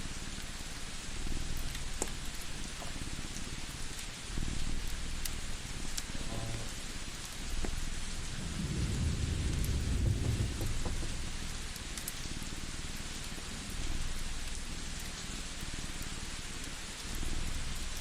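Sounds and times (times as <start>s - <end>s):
steady hiss: 0.0s - 18.0s
wood fire crackling: 0.0s - 18.0s.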